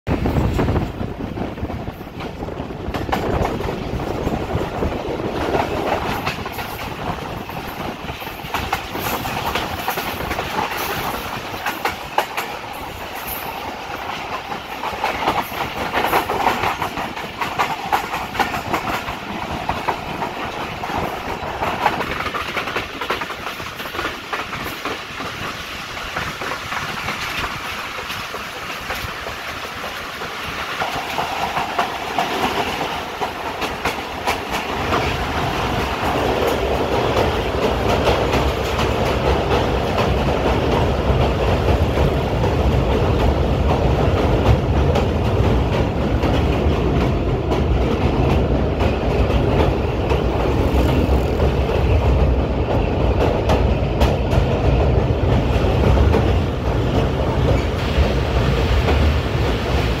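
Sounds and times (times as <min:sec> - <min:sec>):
train wheels rumbling on rails: 0:00.0 - 1:00.0
track clicks and clatter: 0:00.1 - 1:00.0.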